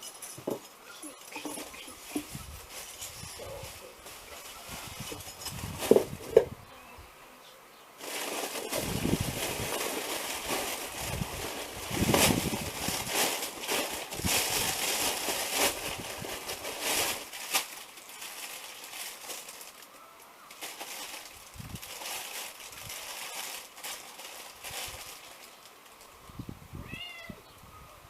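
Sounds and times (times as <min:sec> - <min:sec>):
packaging rustling and crinkling: 0:00.0 - 0:06.4, 0:08.0 - 0:26.1.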